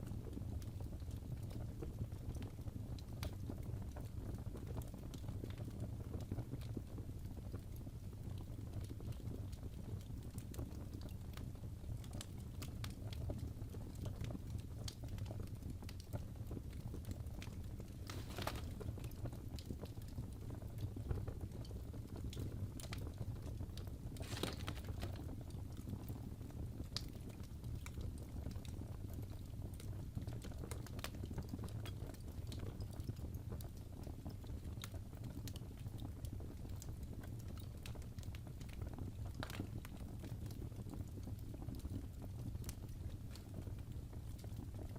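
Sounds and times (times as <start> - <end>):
low rumble of flames: 0.0 - 44.9
wood fire crackling and popping: 0.0 - 44.9.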